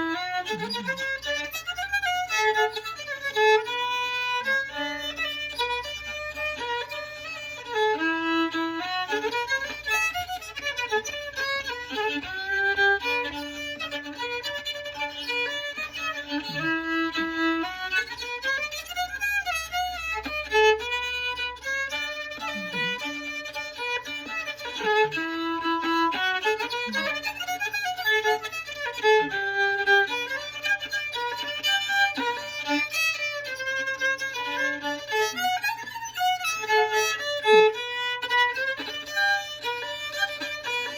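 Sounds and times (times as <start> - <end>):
solo fiddle tune: 0.0 - 40.9.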